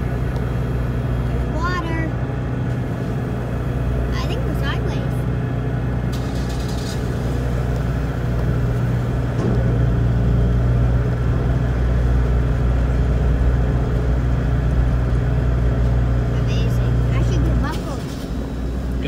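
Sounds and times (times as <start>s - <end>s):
ferry engines droning: 0.0s - 19.0s.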